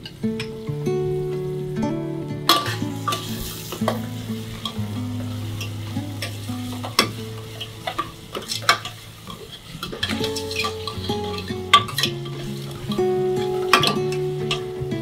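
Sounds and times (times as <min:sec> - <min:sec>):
onion sizzling in hot oil: 0:00.1 - 0:15.0.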